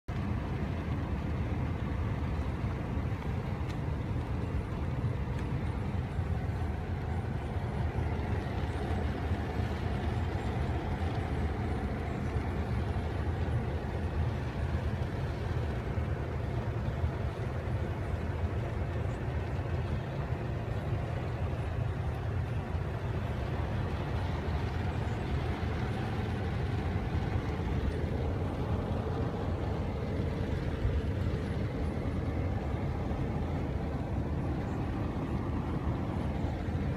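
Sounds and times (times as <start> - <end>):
car engine and tyres rumbling: 0.0 - 36.9.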